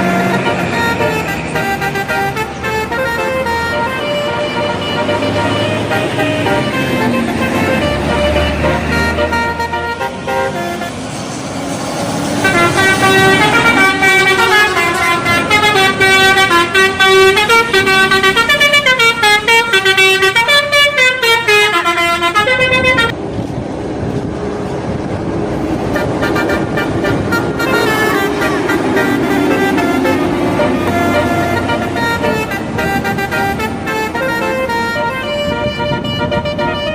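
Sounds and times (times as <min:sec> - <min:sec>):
air horns playing a tune: 0:00.0 - 0:11.5, 0:12.3 - 0:23.2, 0:25.9 - 0:36.9
bus engine: 0:00.0 - 0:36.9
road noise: 0:00.0 - 0:36.9.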